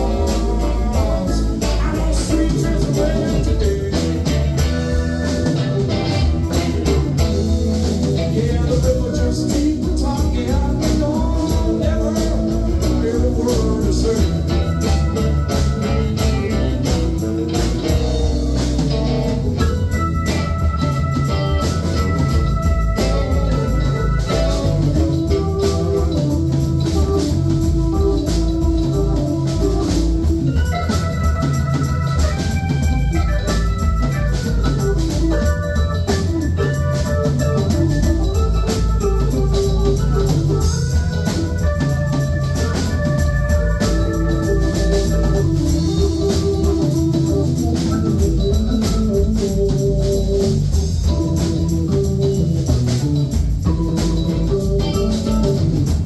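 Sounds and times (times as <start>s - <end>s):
drum kit beat: 0.0s - 56.0s
electric bass: 0.0s - 56.0s
guitar: 0.0s - 56.0s
organ lead: 0.0s - 56.0s.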